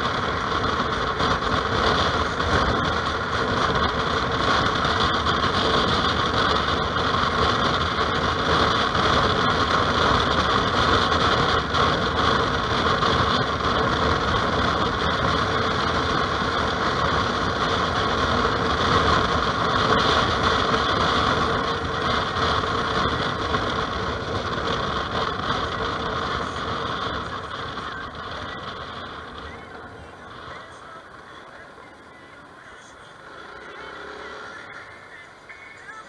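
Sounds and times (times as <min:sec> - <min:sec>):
scooter engine: 0:00.0 - 0:36.0
wind and road noise: 0:00.0 - 0:36.0.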